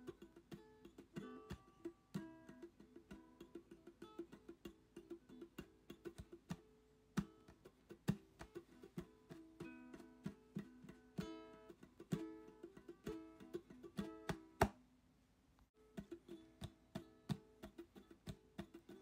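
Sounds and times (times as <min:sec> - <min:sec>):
plucked guitar tune: 0:00.0 - 0:14.8, 0:15.8 - 0:19.0.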